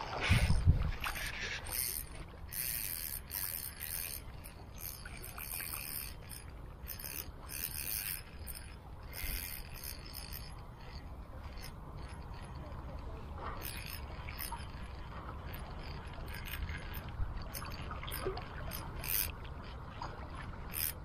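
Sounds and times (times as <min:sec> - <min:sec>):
fishing reel gears whirring: 0:00.0 - 0:21.0.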